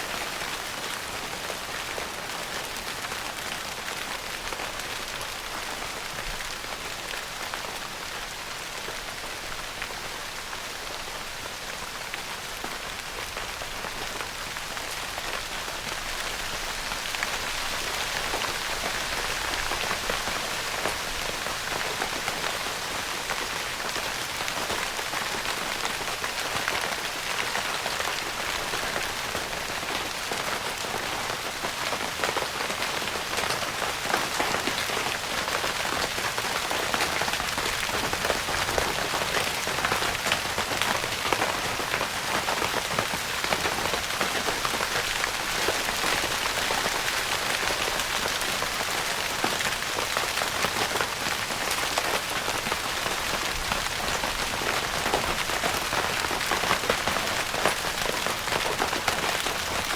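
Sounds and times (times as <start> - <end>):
rain on tent fabric: 0.0 - 59.9.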